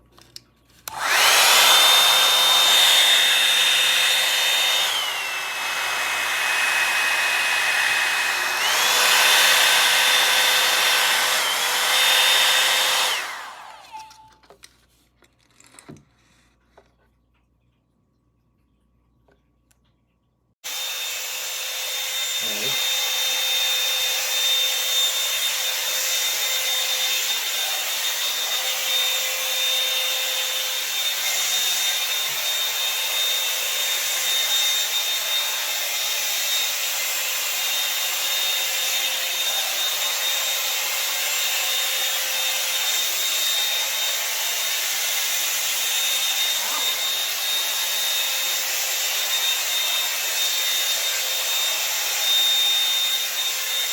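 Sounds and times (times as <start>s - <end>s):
hair dryer blowing with whine: 0.9s - 14.2s, 20.7s - 53.9s.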